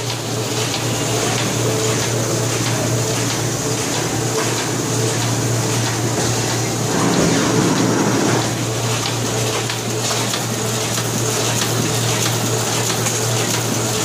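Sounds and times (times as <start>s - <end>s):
printing press clattering: 0.0s - 14.0s.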